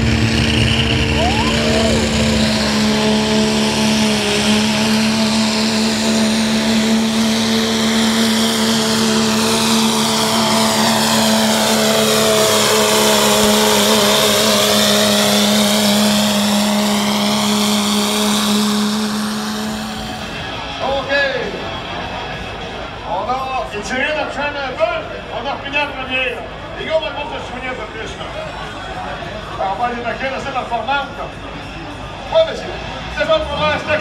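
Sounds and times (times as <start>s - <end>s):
diesel truck engine straining: 0.0s - 34.0s.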